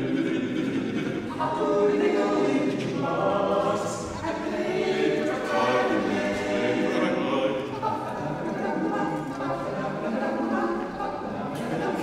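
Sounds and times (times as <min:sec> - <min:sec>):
male quartet singing a cappella: 0:00.0 - 0:12.0.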